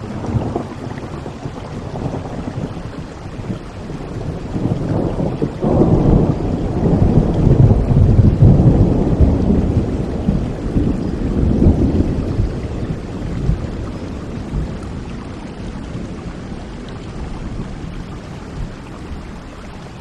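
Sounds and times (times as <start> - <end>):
rolling thunder: 0.0 - 18.8
steady rain: 0.0 - 20.0.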